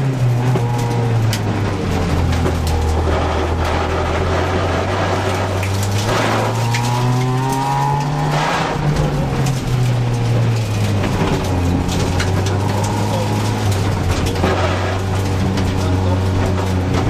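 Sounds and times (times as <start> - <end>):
car engine pulling hard: 0.0 - 17.0.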